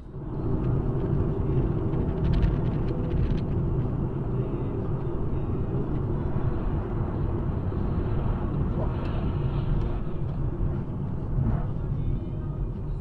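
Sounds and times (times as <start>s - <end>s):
car driving rumble from inside: 0.0s - 13.0s.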